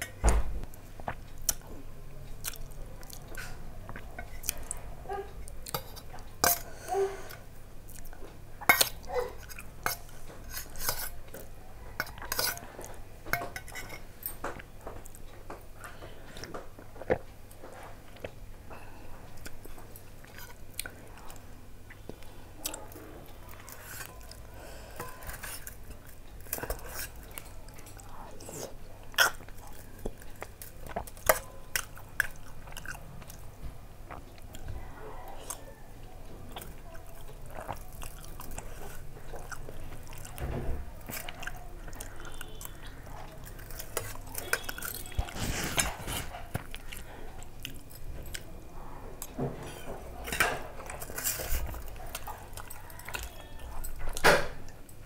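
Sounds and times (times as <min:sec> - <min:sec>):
person chewing: 0:01.0 - 0:13.0, 0:14.5 - 0:48.6, 0:49.2 - 0:55.0.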